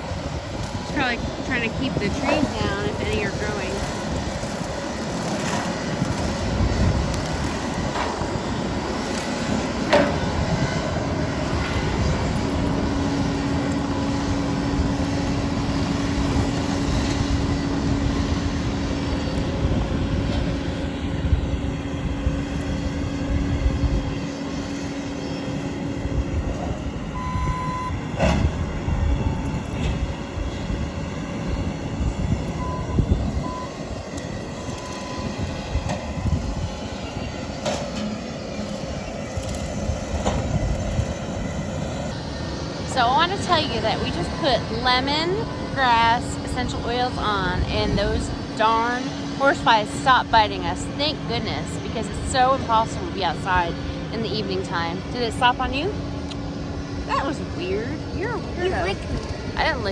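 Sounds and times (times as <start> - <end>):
hydraulic hum: 0.0 - 59.9
skid steer engine rumble: 0.0 - 59.9.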